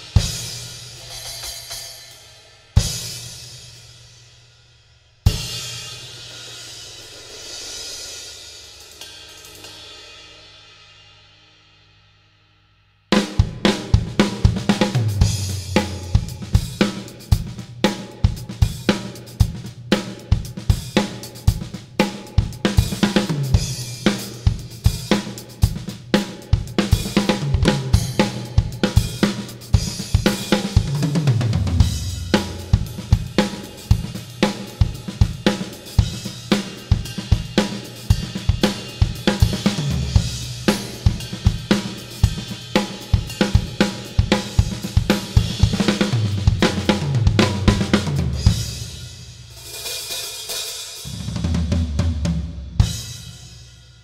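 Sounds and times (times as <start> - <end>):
drum kit steady beat: 0.0 - 4.1, 5.2 - 10.4, 13.1 - 54.0
crash and ride cymbals: 0.0 - 4.4, 5.3 - 11.5, 13.2 - 54.0.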